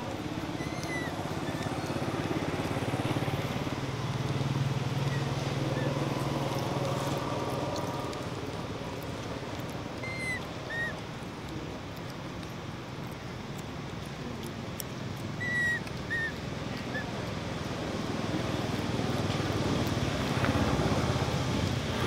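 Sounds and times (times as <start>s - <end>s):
vehicle engine hum passing: 0.0s - 22.0s.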